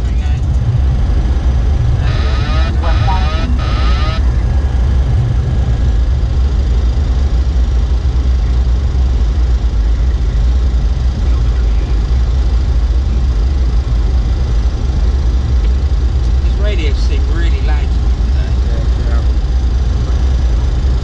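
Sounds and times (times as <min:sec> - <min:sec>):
airflow and engine rumble: 0:00.0 - 0:21.0.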